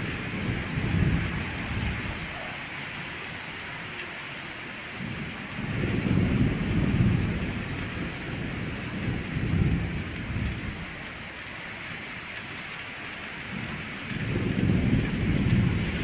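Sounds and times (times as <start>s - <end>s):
low thunder rumbles: 0.0s - 16.0s
rain hiss: 0.0s - 16.0s.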